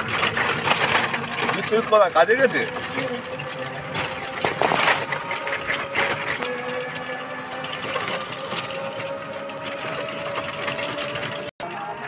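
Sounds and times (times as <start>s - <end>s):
three-wheeler motor humming: 0.0s - 12.0s
vehicle body rattling: 0.0s - 12.0s.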